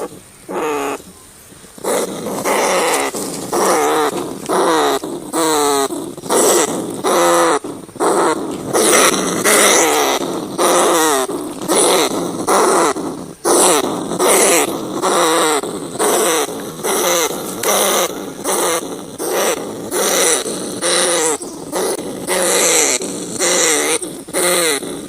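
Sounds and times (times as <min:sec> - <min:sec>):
rats squealing and growling: 0:00.0 - 0:01.1, 0:01.8 - 0:25.0.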